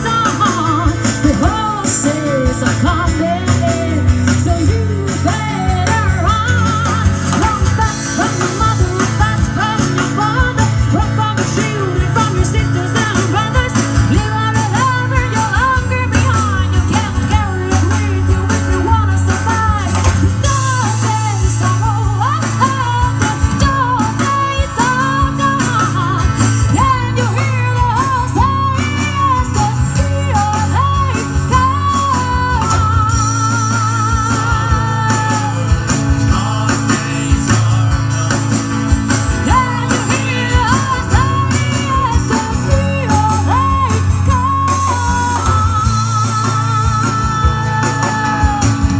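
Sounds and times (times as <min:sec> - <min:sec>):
drums: 0:00.0 - 0:48.9
electric guitar: 0:00.0 - 0:48.9
strummed acoustic guitar: 0:00.0 - 0:48.9
woman singing: 0:00.0 - 0:48.9.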